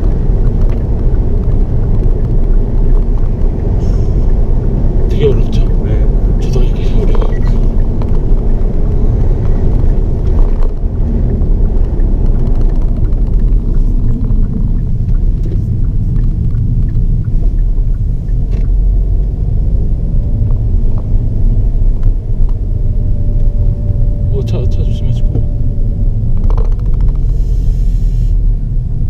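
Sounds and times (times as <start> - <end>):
car cabin engine and road rumble: 0.0 - 29.0.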